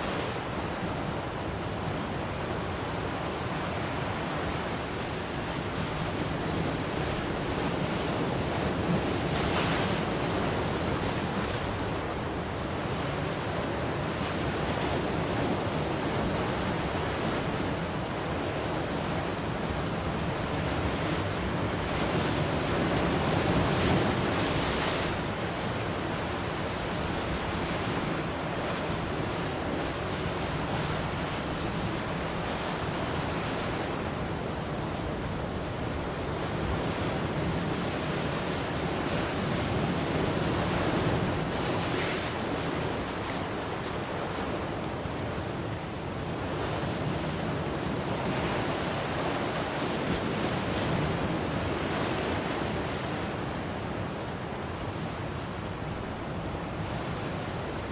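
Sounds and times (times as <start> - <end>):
ocean surf washing: 0.0 - 57.9
waves breaking: 0.0 - 57.9.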